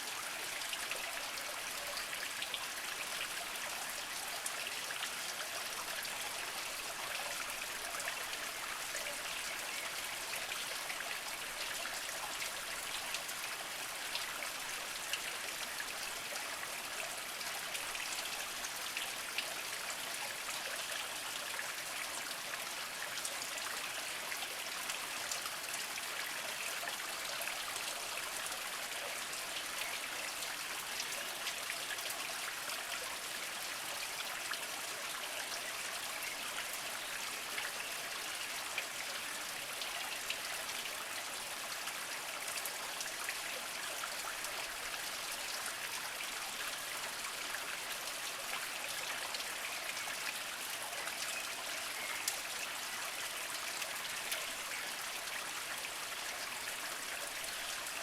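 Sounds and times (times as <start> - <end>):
water trickling over rocks: 0.0 - 58.0.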